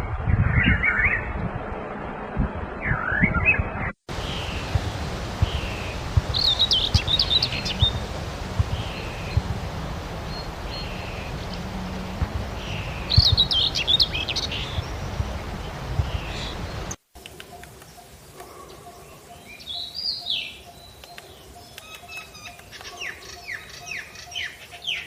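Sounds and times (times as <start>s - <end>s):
outdoor background noise: 0.0s - 25.0s
wild birds chirping: 2.8s - 25.0s.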